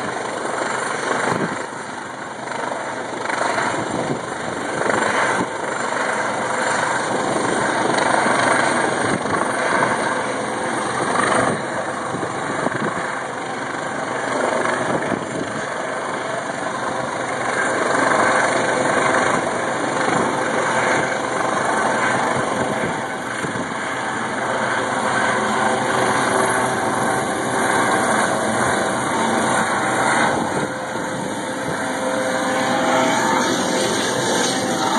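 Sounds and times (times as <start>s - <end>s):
helicopter rotor drone: 0.0s - 34.9s.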